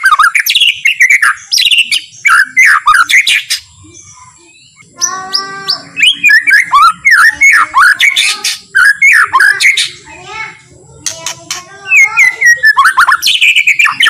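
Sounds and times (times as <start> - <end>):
bird singing whistled phrases: 0.0 - 10.0, 11.2 - 14.0.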